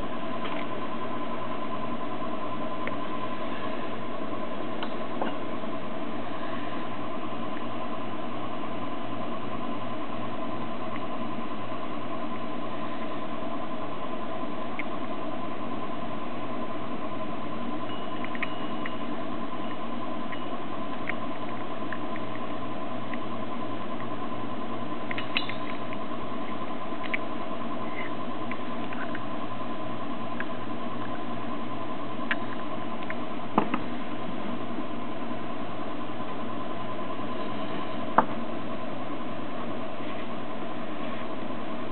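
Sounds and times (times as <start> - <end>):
constant high tone: 0.0 - 39.9
steady hiss and hum: 0.0 - 41.9.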